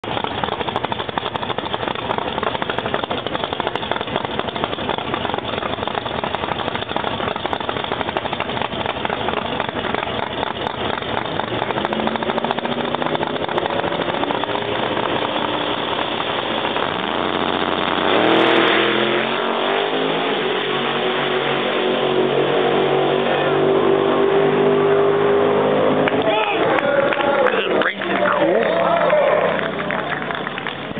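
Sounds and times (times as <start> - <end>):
car engine running roughly: 0.0 - 22.3, 26.0 - 30.9
car accelerating at full throttle: 0.0 - 30.9.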